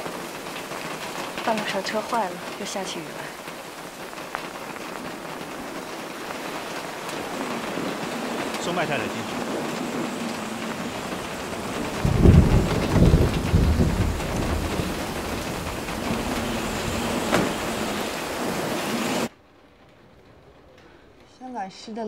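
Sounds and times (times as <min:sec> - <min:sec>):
low rumble of thunder: 0:00.0 - 0:19.3
heavy rain: 0:00.0 - 0:19.4.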